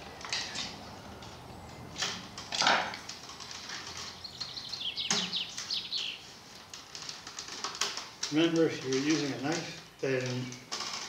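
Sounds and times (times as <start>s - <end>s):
willow rods rustling and knocking: 0.0s - 11.0s.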